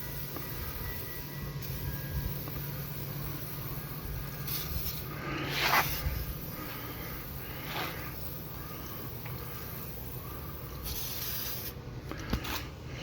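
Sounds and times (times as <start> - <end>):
aerosol can spraying: 0.0 - 12.5
steady low hum: 0.0 - 13.0.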